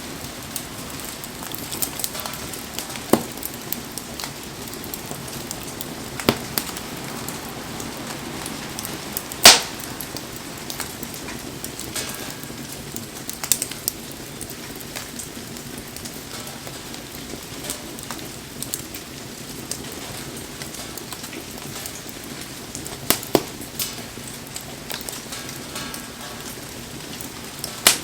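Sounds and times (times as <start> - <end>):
rain pattering: 0.0 - 28.0
wood fire crackling: 0.0 - 28.0.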